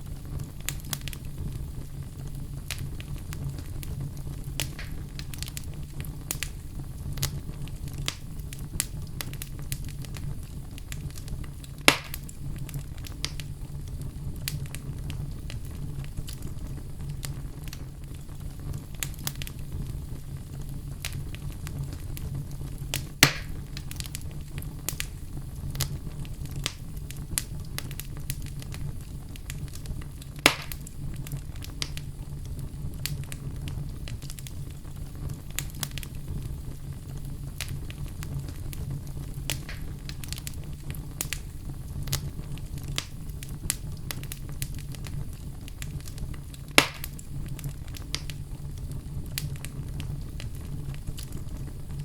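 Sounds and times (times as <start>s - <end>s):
sharp pops of fire: 0.0s - 52.0s
wood fire crackling: 0.0s - 52.0s.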